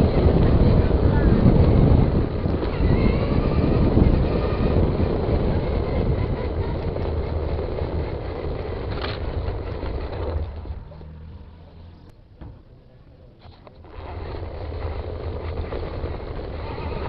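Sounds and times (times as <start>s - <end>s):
wind on microphone: 0.0s - 11.0s, 13.8s - 17.0s
rc car motor rumbling: 0.0s - 17.0s.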